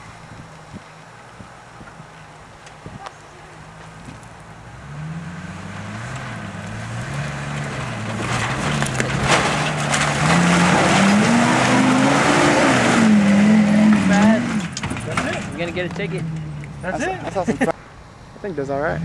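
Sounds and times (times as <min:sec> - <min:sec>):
pickup engine revving: 0:00.0 - 0:17.7
tyre and mud noise: 0:00.0 - 0:17.8.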